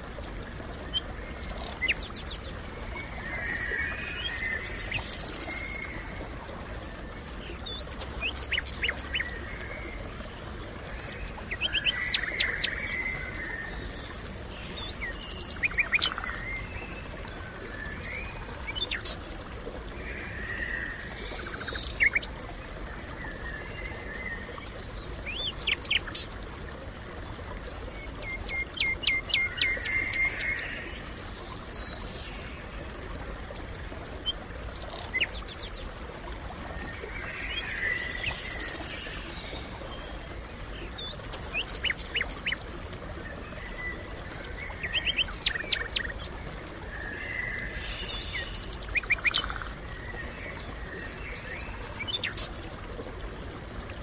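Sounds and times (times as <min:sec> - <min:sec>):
songbirds chirping and calling: 0:00.7 - 0:10.1, 0:10.8 - 0:32.2, 0:36.8 - 0:53.9.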